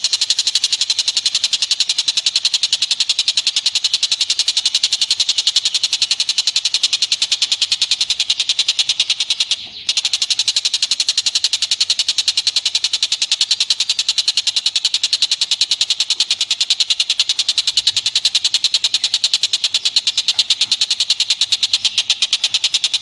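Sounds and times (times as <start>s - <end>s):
rapid high bird call notes: 0.0s - 23.0s.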